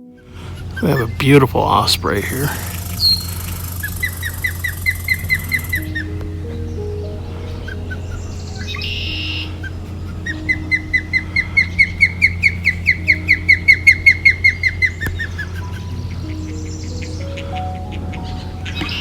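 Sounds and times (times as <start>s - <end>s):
osprey calling: 0.0s - 19.0s.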